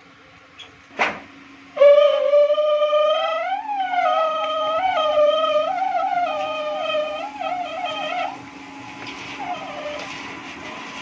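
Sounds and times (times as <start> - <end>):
steady hum of mill drive: 0.0 - 11.0
sawmill blade whining: 1.8 - 11.0.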